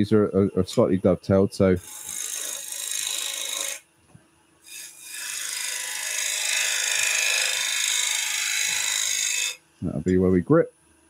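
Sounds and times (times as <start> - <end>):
faint lathe hum: 0.0 - 11.0.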